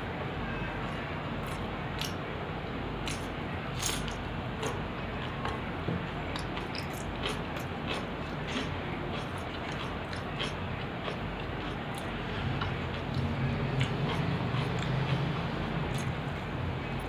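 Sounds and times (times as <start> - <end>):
chewing and wet squishing: 1.4 - 2.2, 3.0 - 17.0.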